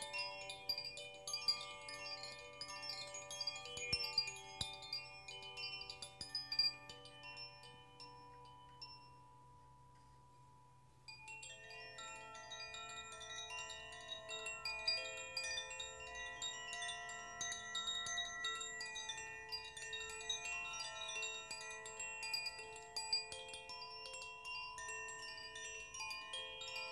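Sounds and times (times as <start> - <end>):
metal wind chimes ringing: 0.0 - 26.9.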